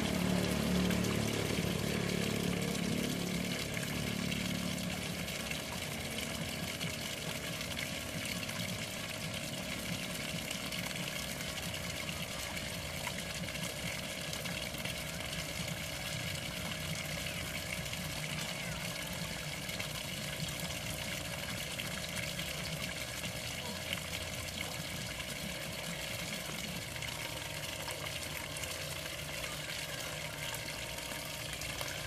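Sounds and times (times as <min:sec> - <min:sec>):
fountain water splashing: 0:00.0 - 0:32.0.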